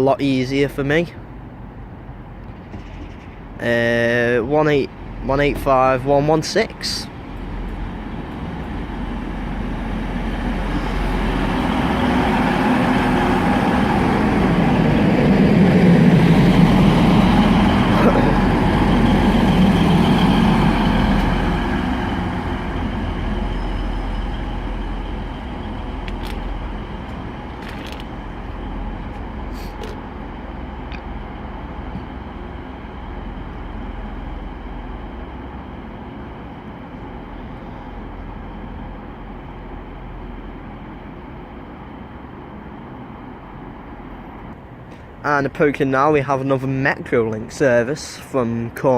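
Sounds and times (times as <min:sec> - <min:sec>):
diesel train engines: 0:00.0 - 0:48.9.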